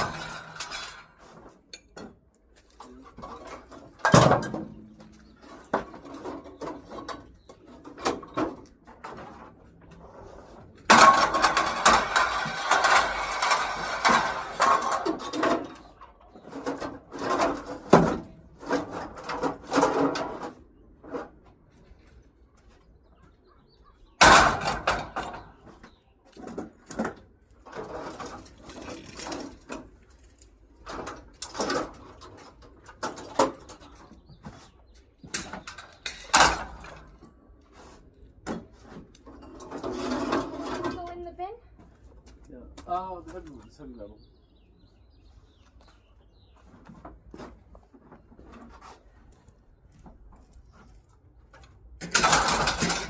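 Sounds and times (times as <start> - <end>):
scrap metal clanking and rattling: 0.0 - 22.2, 23.8 - 42.0, 50.3 - 53.0.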